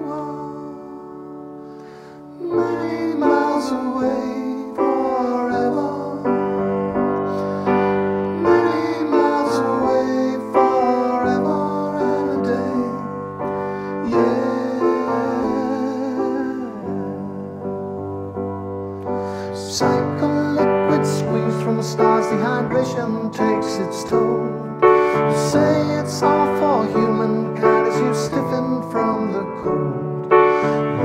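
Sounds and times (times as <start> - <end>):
grand piano chords: 0.0 - 31.0.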